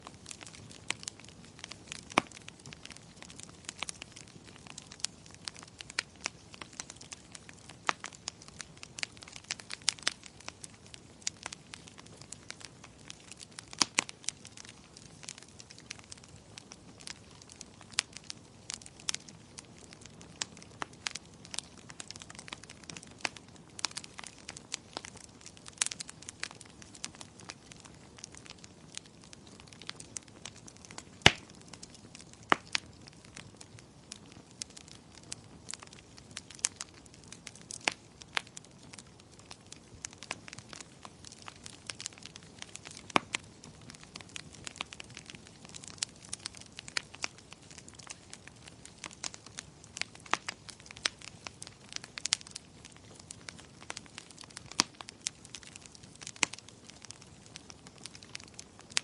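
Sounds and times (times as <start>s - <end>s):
gentle rain hiss: 0.0s - 59.0s
wood fire crackling and popping: 0.0s - 59.0s.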